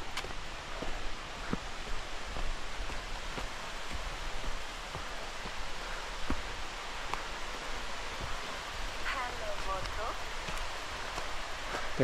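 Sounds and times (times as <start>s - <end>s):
footsteps on leafy dirt trail: 0.0s - 12.0s
waterfall rushing: 0.0s - 12.0s.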